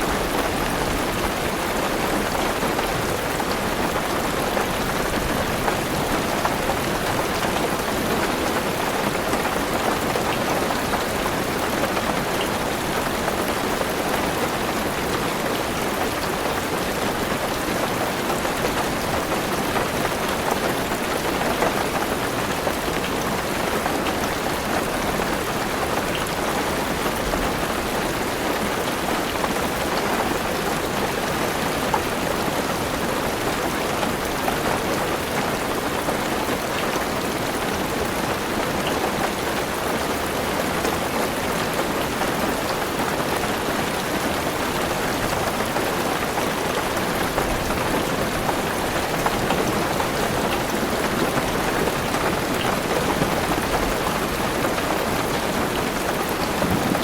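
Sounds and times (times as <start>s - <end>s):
heavy rain on a car roof: 0.0s - 57.0s.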